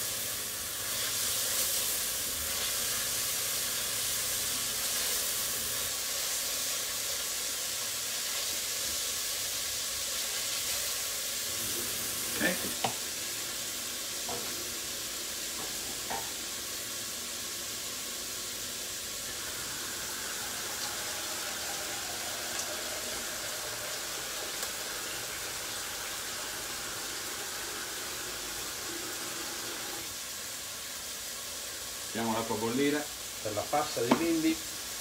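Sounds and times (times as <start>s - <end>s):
food sizzling in pans: 0.0s - 35.0s.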